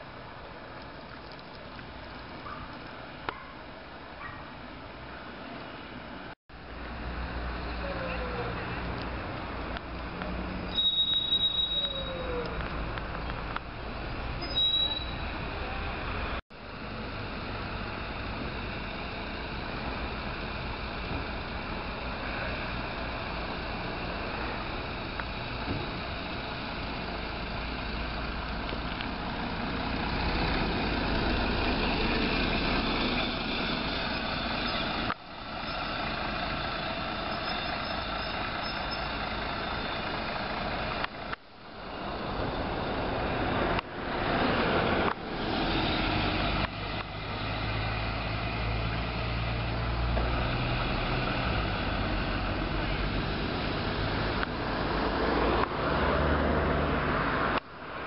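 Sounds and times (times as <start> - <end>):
bus engine pulling away: 0.0 - 58.0.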